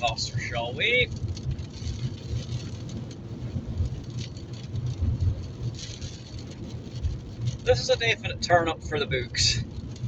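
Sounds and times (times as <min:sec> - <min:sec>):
car engine and road rumble: 0:00.0 - 0:10.0
rain hitting car: 0:00.0 - 0:10.0.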